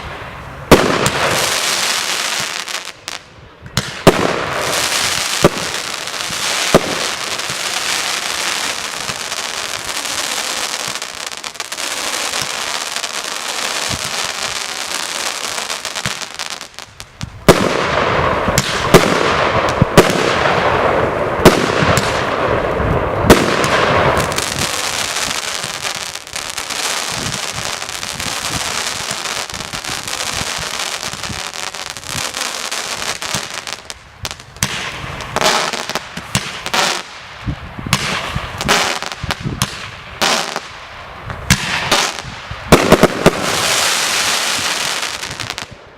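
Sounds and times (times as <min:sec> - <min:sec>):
firework hissing crackle: 0:00.0 - 0:45.8.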